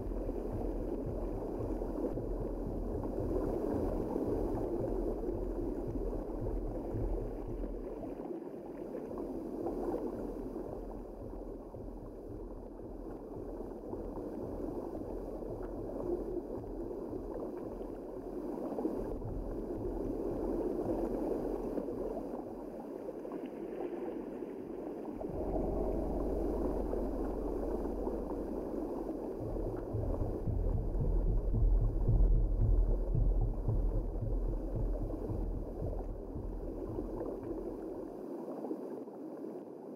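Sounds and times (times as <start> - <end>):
low rumble: 0.0 - 8.2, 9.2 - 22.8, 25.2 - 38.2
underwater gurgling water: 0.0 - 39.9.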